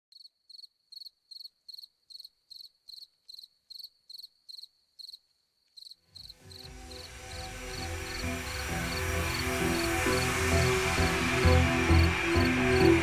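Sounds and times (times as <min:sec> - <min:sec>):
cricket chirping: 0:00.1 - 0:13.0.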